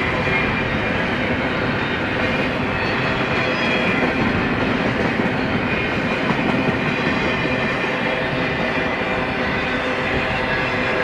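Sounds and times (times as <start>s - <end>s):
steel wheels on rails: 0.0s - 11.0s.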